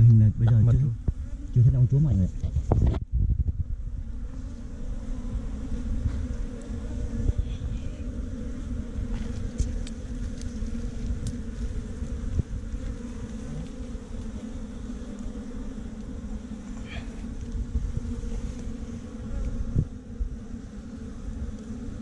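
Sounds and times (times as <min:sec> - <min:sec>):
bees buzzing: 0:00.0 - 0:02.7, 0:03.6 - 0:22.0.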